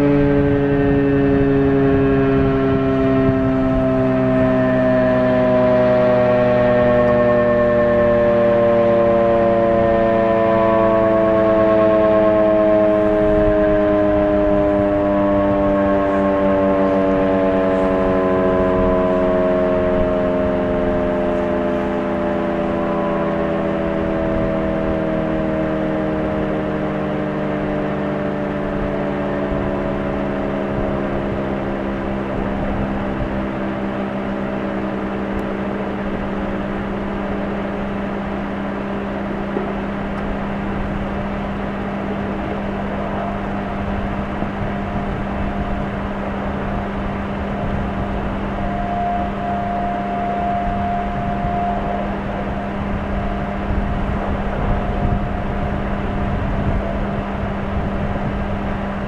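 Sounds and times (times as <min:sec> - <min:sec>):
electromechanical siren winding down: 0:00.0 - 0:59.0
steady low hum: 0:00.0 - 0:59.0
wind buffeting microphone: 0:00.0 - 0:59.0.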